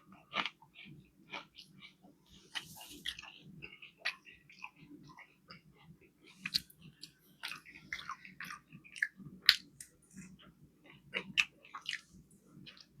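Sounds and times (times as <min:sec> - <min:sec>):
person chewing wet smacks: 0:00.2 - 0:13.0.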